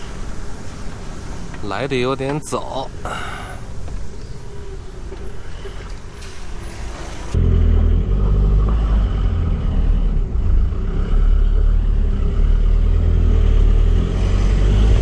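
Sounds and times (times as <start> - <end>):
motorhome engine drone: 0.0 - 15.0.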